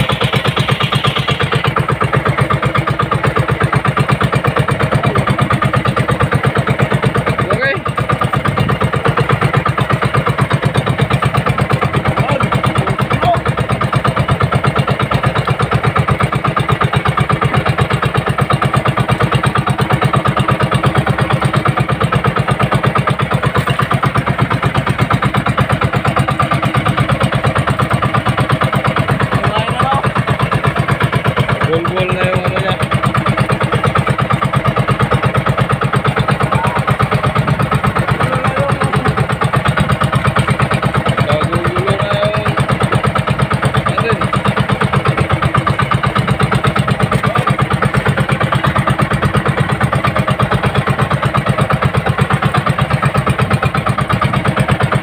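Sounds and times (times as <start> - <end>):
boat engine throbbing: 0.0 - 55.0.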